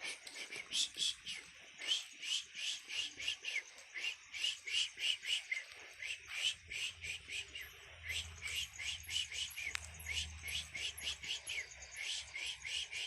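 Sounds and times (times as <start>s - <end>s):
frogs calling in chorus: 0.0s - 13.0s.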